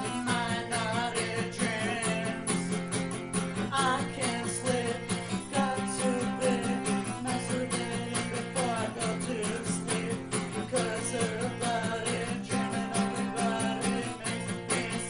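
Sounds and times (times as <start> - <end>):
country music on acoustic guitar: 0.0 - 15.0.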